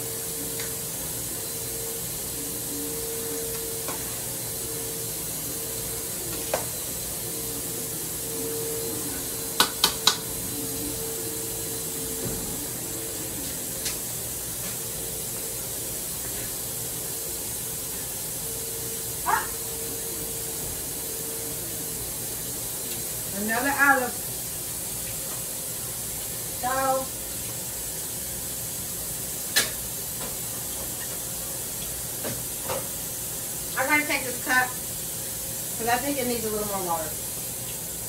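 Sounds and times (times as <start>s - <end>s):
faint steady hum: 0.0s - 38.0s
steady kitchen hiss: 0.0s - 38.0s.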